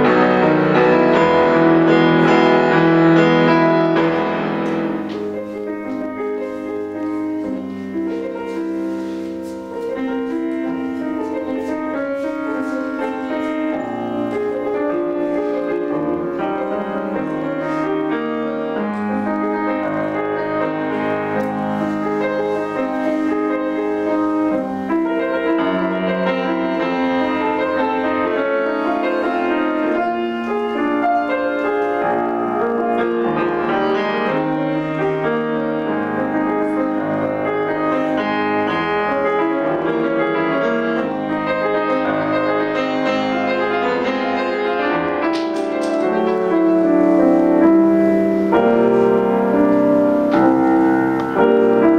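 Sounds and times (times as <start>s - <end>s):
grand piano playing: 0.0s - 51.9s.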